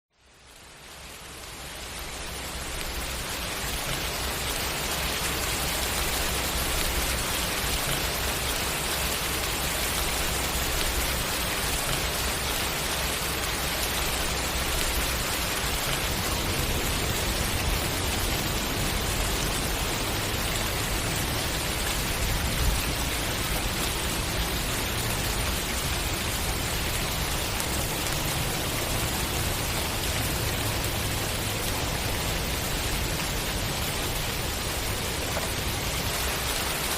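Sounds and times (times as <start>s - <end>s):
steady rain falling: 0.1s - 36.9s.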